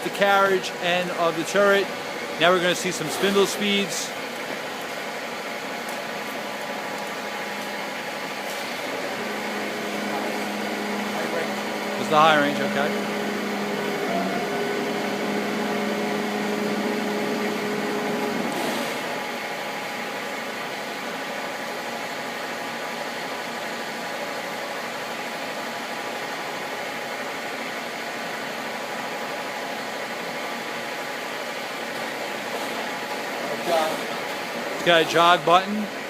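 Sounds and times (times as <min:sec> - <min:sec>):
lathe running with steady hum: 0:00.0 - 0:36.0.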